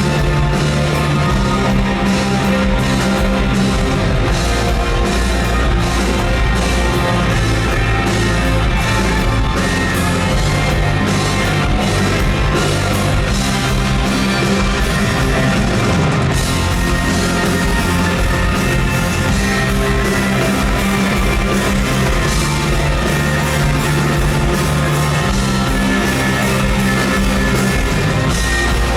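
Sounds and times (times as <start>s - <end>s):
drum kit: 0.0s - 28.9s
electric guitar: 0.0s - 28.9s
live rock band playing: 0.0s - 28.9s.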